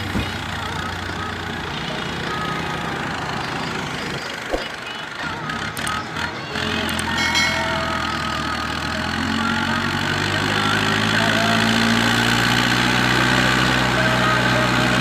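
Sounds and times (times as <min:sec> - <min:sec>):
diesel tractor engine under load: 0:00.0 - 0:15.0.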